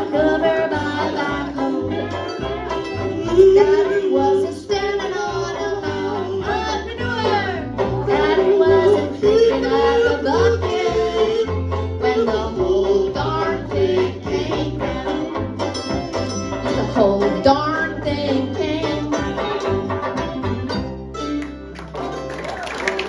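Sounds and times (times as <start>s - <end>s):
live country band music: 0.0s - 23.0s.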